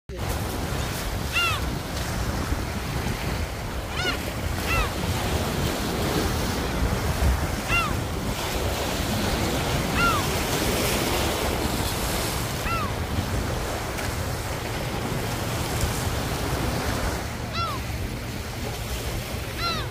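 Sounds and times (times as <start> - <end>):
waves on pebbly shore: 0.1 - 19.9
wind buffeting microphone: 0.1 - 19.9.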